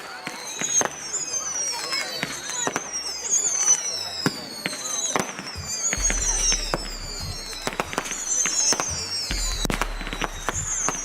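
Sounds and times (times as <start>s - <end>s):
falling firework whistles: 0.0s - 11.0s
fireworks bangs and crackles: 0.0s - 11.0s.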